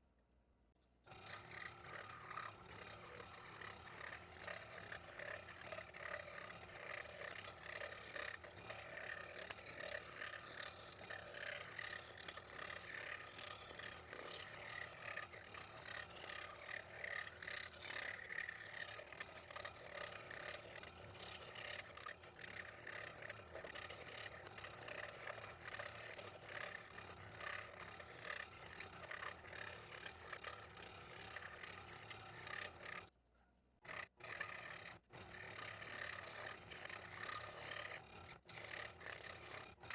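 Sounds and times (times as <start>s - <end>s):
scroll saw cutting plywood: 1.0s - 33.2s, 33.8s - 39.9s.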